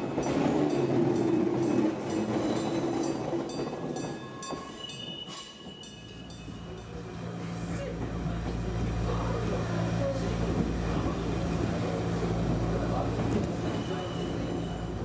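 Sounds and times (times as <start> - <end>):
electric train passing: 0.0 - 15.0
train hum and rumble: 0.0 - 15.0.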